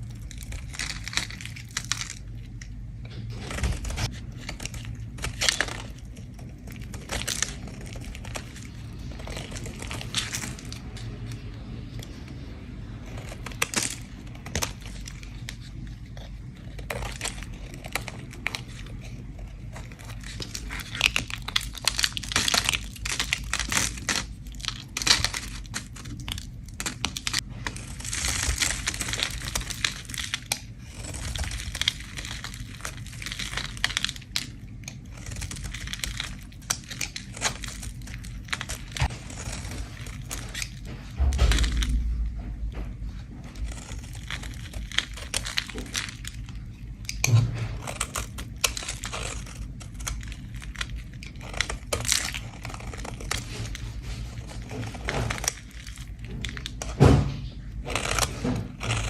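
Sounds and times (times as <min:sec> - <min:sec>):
soap being scraped: 0:00.0 - 0:42.3, 0:42.9 - 0:59.0.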